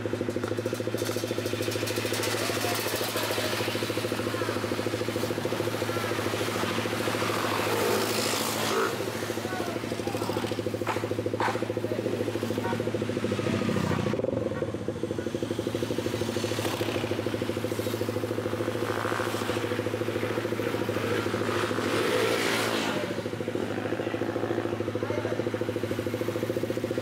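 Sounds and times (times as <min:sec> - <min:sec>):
motorcycles passing: 0:00.0 - 0:27.0
small engine idling: 0:00.0 - 0:27.0.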